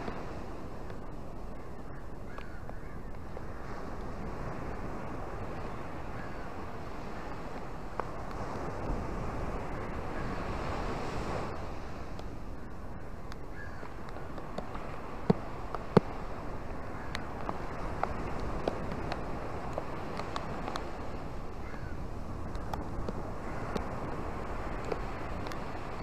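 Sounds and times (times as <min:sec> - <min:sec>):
surf washing up beach: 0:00.0 - 0:02.5, 0:03.1 - 0:26.0
wind on microphone: 0:00.0 - 0:26.0.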